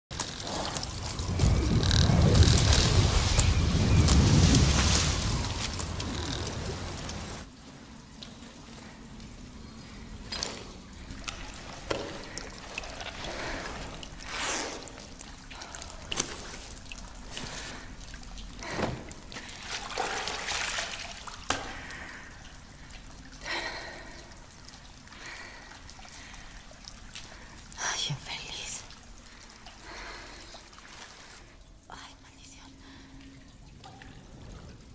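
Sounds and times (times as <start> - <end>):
water trickling and splashing: 0.1 - 34.9
sharp drips: 0.2 - 34.9.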